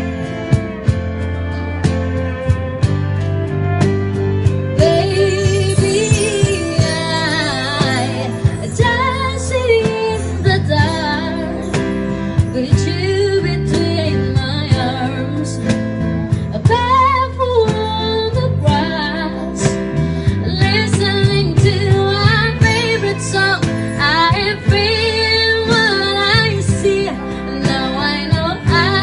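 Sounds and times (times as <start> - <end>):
guitar and steady beat: 0.0 - 29.0
woman singing: 4.8 - 29.0.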